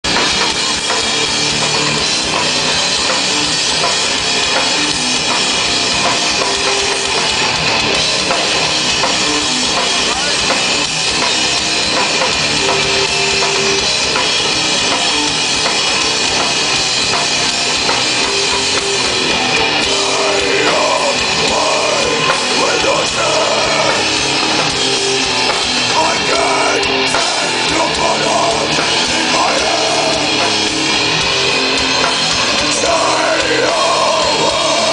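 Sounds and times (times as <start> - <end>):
drum kit: 0.0 - 34.9
rock band playing live: 0.0 - 34.9.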